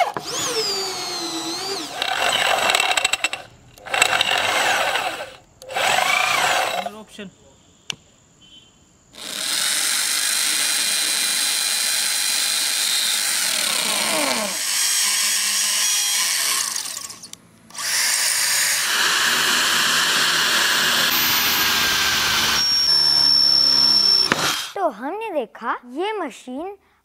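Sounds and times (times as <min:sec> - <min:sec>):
impact drill boring: 0:00.0 - 0:06.9, 0:09.2 - 0:24.8.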